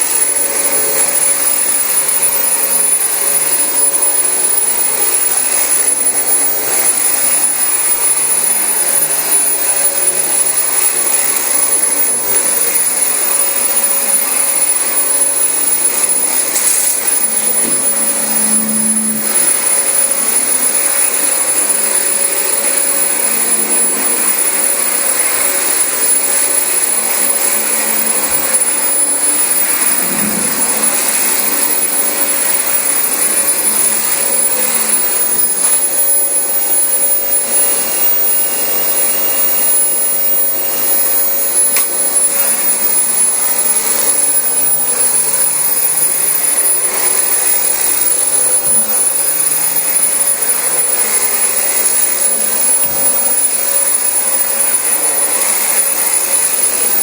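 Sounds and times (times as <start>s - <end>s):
vacuum cleaner running over carpet: 0.0s - 57.0s.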